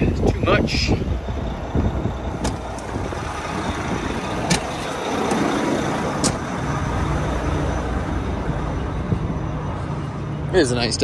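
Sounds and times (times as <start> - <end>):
diesel truck engine running: 0.0 - 11.0
road noise rumble: 0.0 - 11.0.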